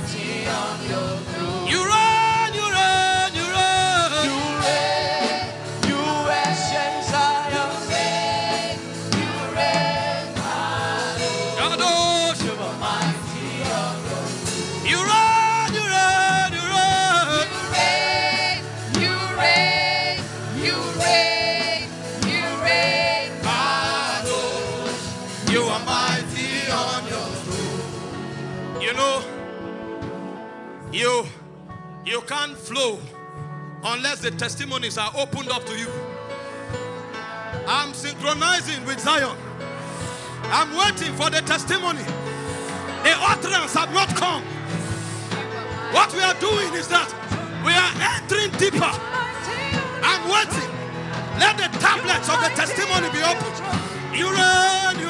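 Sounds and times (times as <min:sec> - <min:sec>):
gospel singing with instruments: 0:00.0 - 0:31.1, 0:33.9 - 0:55.0.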